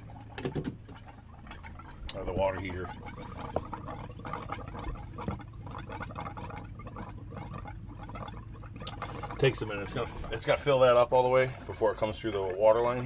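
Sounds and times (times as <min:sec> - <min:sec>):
water pump humming: 0:00.0 - 0:13.0.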